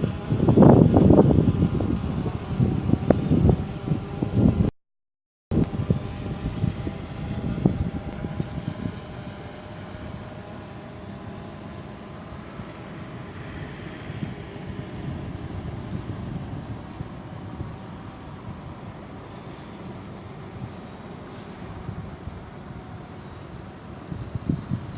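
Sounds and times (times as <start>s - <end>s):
engine-like hum: 0.0s - 4.7s, 5.5s - 24.9s
thin high whine: 0.0s - 4.7s, 5.5s - 24.9s.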